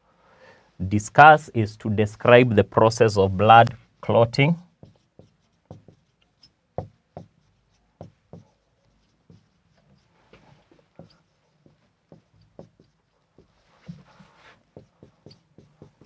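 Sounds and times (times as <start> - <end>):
marker pen on whiteboard: 1.7 - 16.0.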